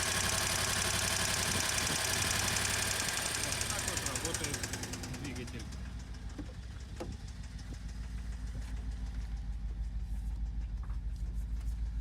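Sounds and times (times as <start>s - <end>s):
engine idling with rapid knocking: 0.0s - 12.0s.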